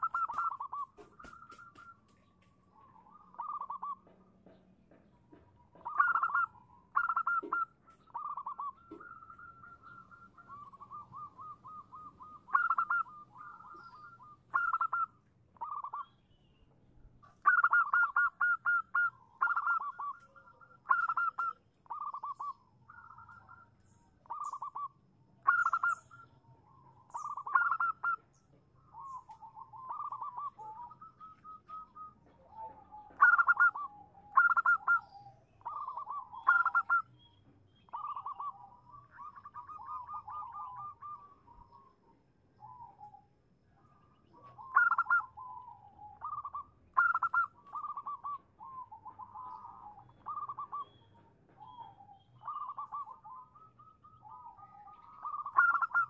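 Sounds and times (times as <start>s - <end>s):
dove cooing trills: 0.0s - 16.3s, 17.0s - 56.0s.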